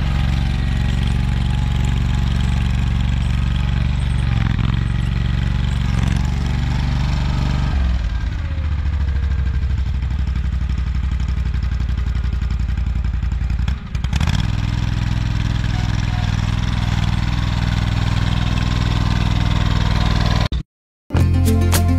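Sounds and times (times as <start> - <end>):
garden tractor engine running: 0.0 - 20.6.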